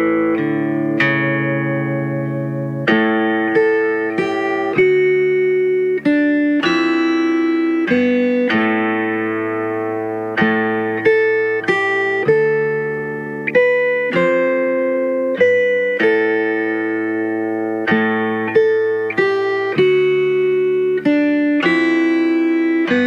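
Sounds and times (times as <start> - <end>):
slow plucked melody: 0.0 - 23.0.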